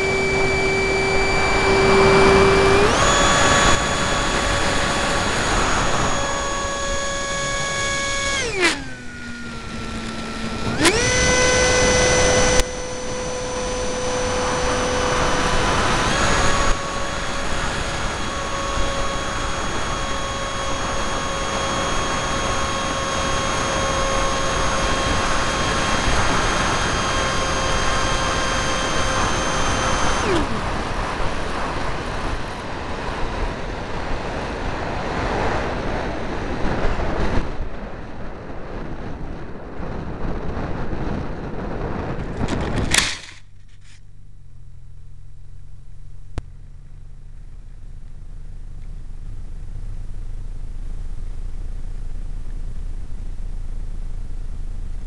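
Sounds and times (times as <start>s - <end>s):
model airplane motor whining: 0.0s - 37.9s, 38.8s - 44.0s, 45.2s - 55.0s.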